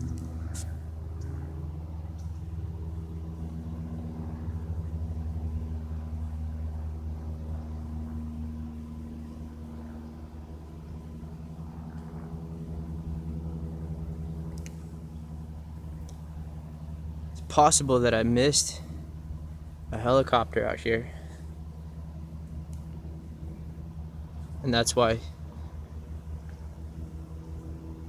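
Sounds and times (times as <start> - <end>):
low engine drone: 0.0 - 28.0.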